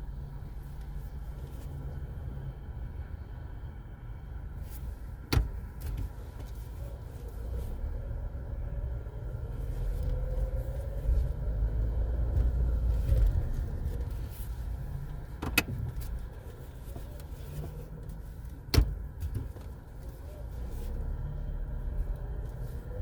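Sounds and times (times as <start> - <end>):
car moving: 0.0 - 23.0.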